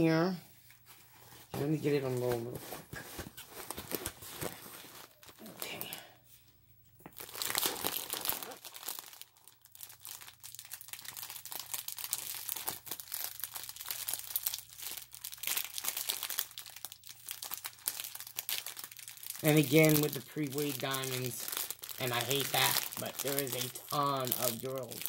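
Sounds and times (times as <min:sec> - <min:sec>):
plastic crinkling: 0:01.7 - 0:06.2, 0:07.0 - 0:25.0.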